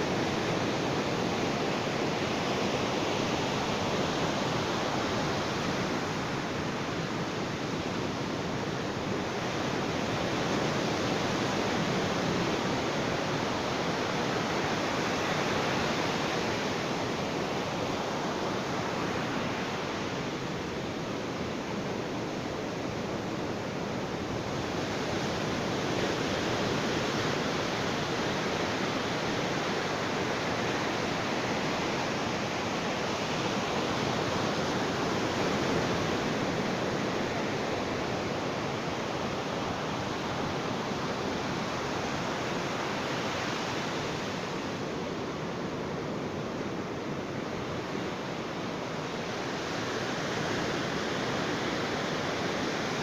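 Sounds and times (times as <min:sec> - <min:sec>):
ocean waves on a beach: 0:00.0 - 0:53.0.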